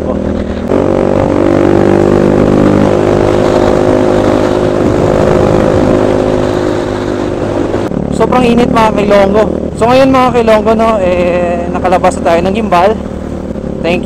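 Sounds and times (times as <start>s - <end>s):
loud motorcycle engine running: 0.0s - 14.0s.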